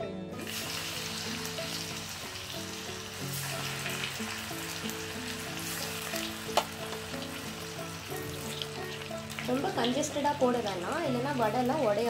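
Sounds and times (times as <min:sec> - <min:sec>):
soft background music: 0:00.0 - 0:12.0
food deep-frying in oil: 0:00.4 - 0:12.0.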